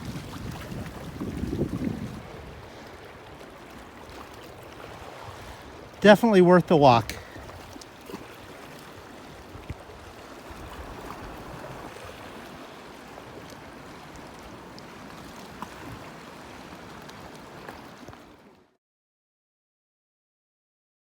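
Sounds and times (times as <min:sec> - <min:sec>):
waves washing against shore: 0:00.0 - 0:18.6.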